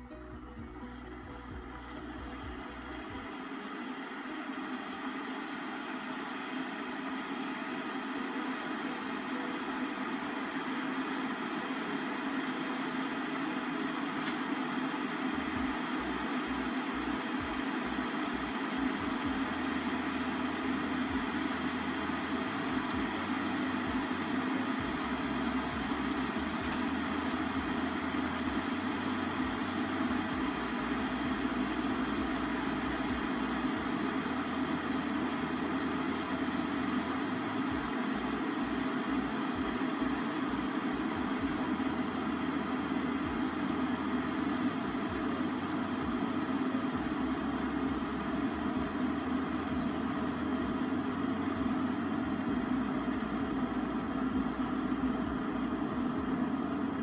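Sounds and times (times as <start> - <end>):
electric kettle boiling: 0.0 - 57.0.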